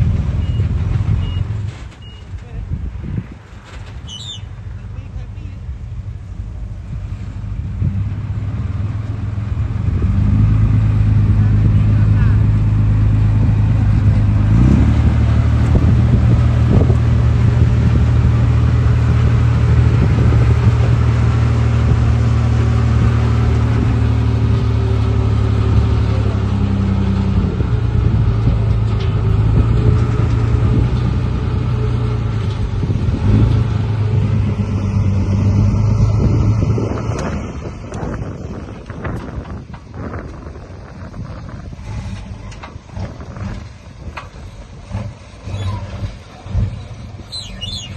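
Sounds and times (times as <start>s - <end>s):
heavy diesel engine running: 4.6s - 47.9s.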